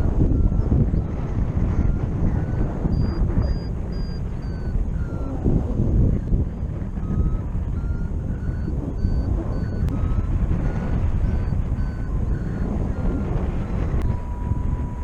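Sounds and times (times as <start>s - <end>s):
variometer beeping: 0.0s - 15.0s
wind rushing over microphone: 0.0s - 15.0s.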